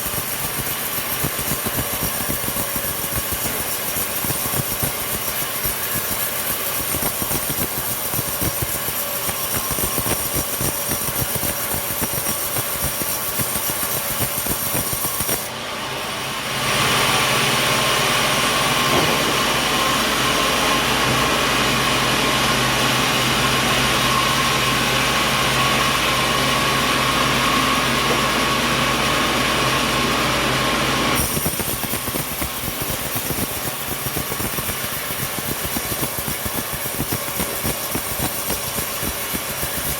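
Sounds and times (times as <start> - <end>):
saw cutting wood: 0.0 - 39.9
sawmill machinery clattering: 0.0 - 39.9.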